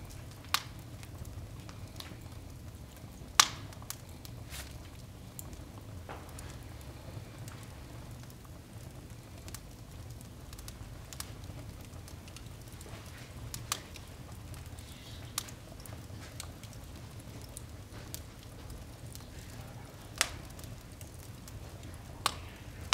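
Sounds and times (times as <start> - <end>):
firewood crackling and popping: 0.0 - 22.9
low fire rumble: 0.0 - 22.9.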